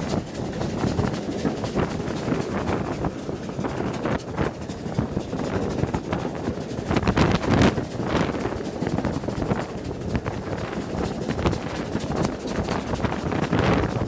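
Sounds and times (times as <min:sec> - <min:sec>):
locomotive exhaust: 0:00.0 - 0:14.0
wheel and rail noise: 0:00.0 - 0:14.0
wind buffeting microphone: 0:00.0 - 0:14.0.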